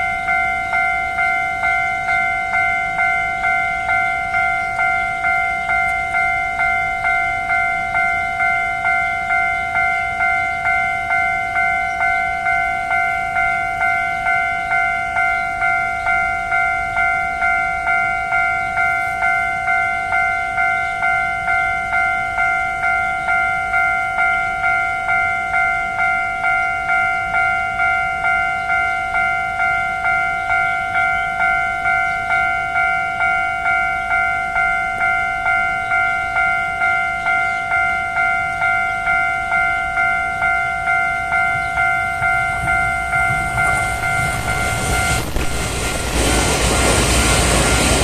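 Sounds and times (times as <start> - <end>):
level crossing bell ringing: 0.0 - 46.3.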